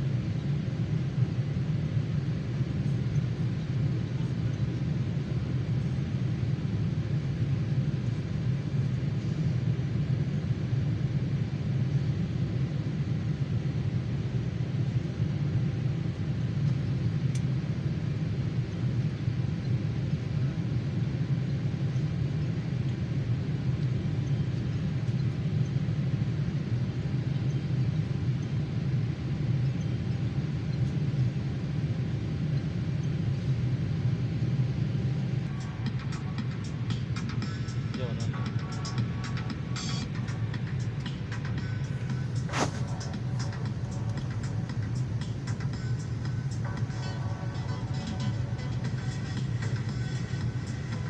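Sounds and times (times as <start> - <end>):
airliner cabin rumble: 0.0 - 51.0.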